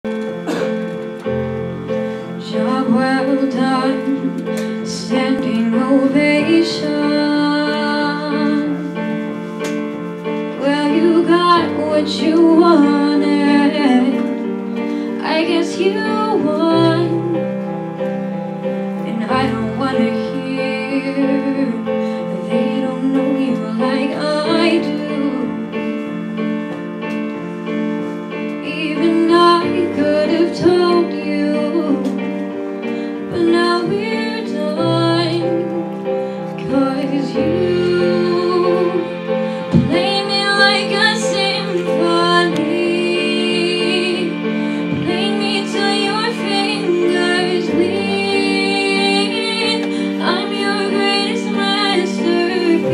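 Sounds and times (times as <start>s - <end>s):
girl singing into a microphone: 2.4s - 26.2s, 28.1s - 52.9s.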